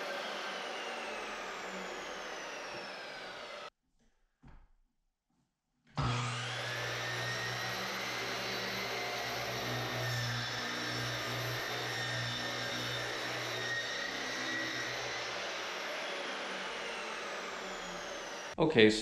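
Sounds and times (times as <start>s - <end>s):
miter saw whining: 0.0s - 3.7s, 6.0s - 18.6s.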